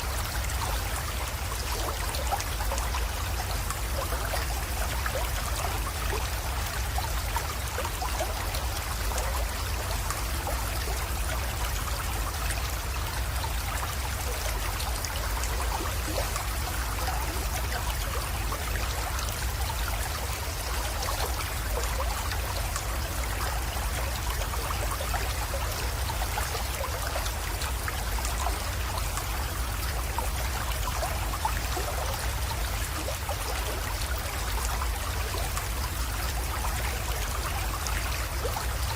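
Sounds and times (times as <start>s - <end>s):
creek trickling and splashing: 0.0s - 38.9s.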